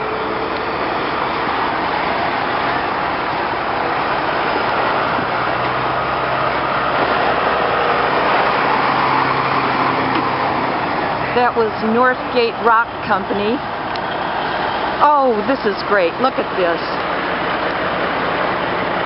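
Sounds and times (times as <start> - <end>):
heavy truck driving past: 0.0 - 19.0.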